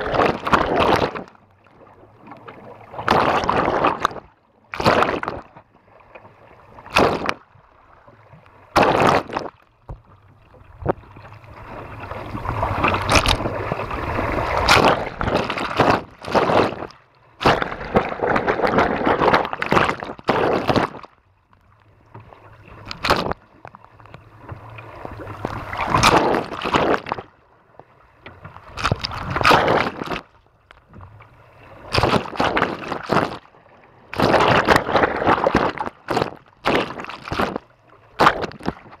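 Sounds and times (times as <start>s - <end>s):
water splashing against boat: 0.0s - 39.0s.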